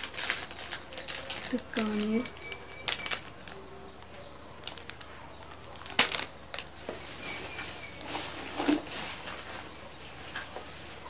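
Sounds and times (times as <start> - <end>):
plastic packaging crinkling: 0.0 - 11.0
sharp plastic crackle: 0.0 - 11.0.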